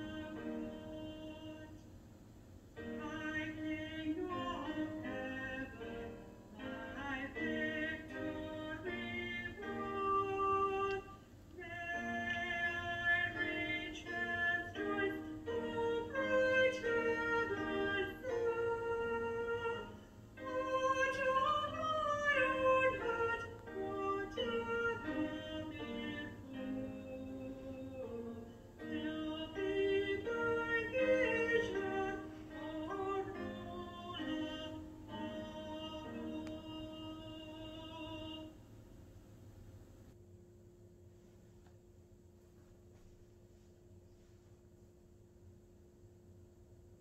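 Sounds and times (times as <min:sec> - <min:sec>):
hymn singing with accompaniment: 0:00.0 - 0:01.9, 0:02.8 - 0:38.6.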